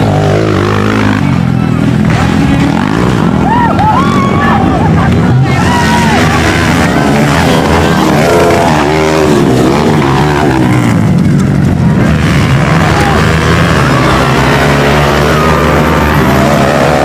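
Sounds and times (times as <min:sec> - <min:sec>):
distant motorcycles droning: 0:00.0 - 0:17.0
motorcycle engines revving: 0:00.0 - 0:17.0.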